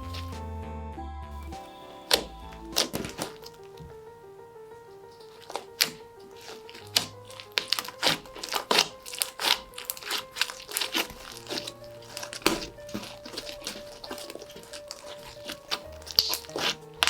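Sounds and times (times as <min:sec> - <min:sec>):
slime squelching and crackling: 0:00.0 - 0:00.4, 0:01.4 - 0:17.0
soft background music: 0:00.0 - 0:17.0.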